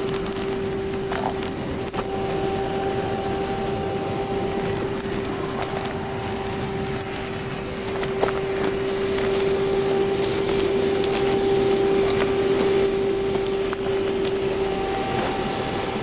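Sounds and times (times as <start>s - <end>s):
air conditioning hum: 0.0s - 16.0s
engine idling: 0.0s - 16.0s.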